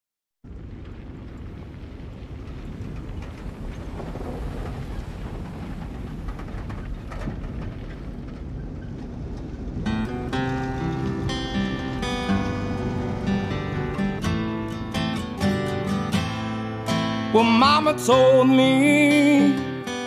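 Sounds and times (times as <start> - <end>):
low rumbling noise: 0.4 - 19.5.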